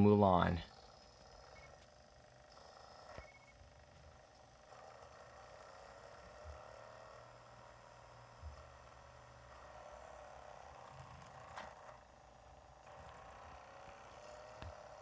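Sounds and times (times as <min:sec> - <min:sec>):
disc drive whirring: 0:00.0 - 0:15.0.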